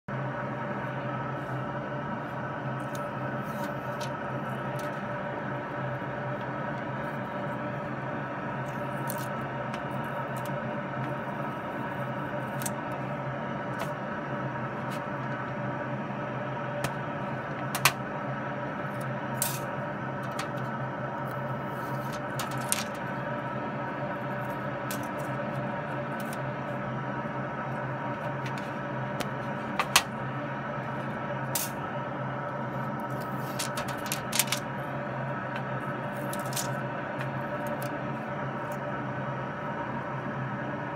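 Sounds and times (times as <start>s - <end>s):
steady multi-tone hum: 0.1s - 40.9s.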